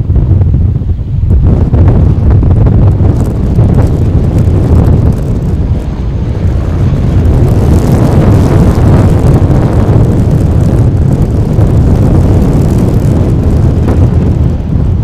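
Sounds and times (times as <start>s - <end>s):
turboprop engine running: 0.0s - 15.0s
wind buffeting microphone: 0.0s - 15.0s.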